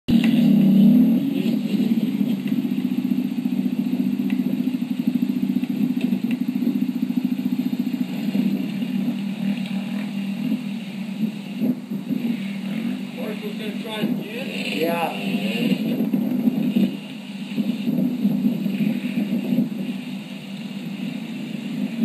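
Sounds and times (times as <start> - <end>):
dirt bike engine running: 0.1 - 22.0.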